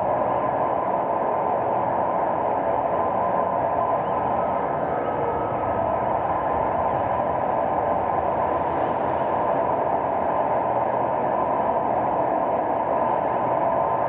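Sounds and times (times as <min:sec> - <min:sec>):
city traffic noise: 0:00.0 - 0:14.0.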